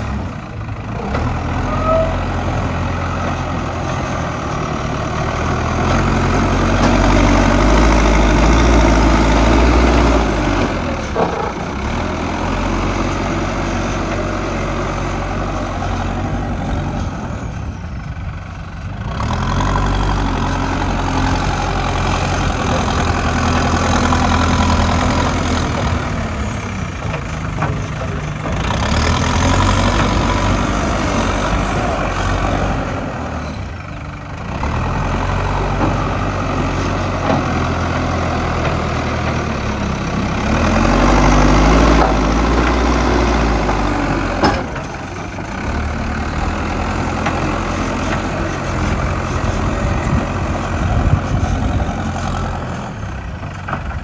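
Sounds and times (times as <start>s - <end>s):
digger diesel engine: 0.0s - 54.0s.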